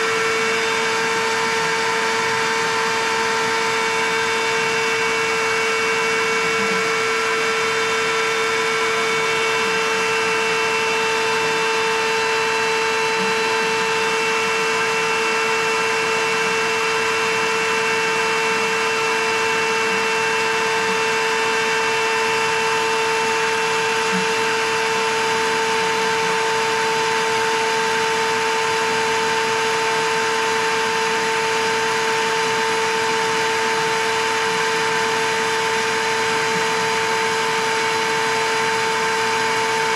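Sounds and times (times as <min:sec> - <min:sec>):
shop vacuum whining: 0:00.0 - 0:39.9.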